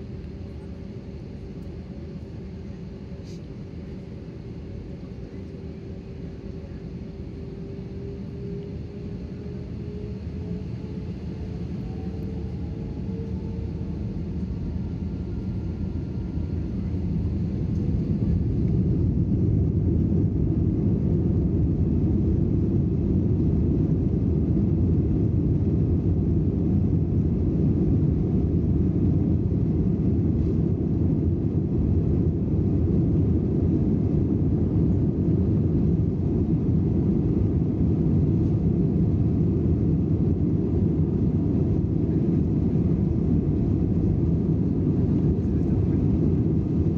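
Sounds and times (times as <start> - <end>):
airplane cabin engine rumble: 0.0 - 46.9.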